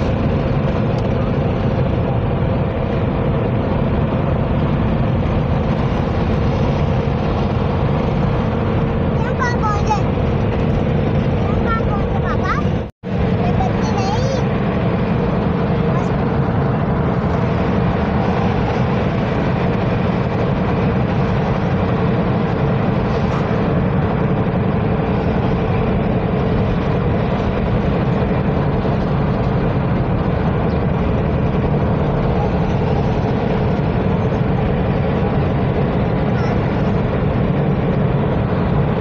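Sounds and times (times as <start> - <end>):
road and engine noise inside car: 0.0 - 39.0.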